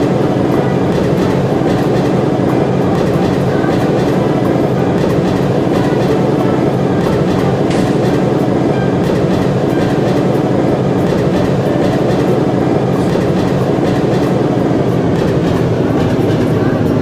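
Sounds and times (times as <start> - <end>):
wheels clicking over track: 0.0 - 17.0.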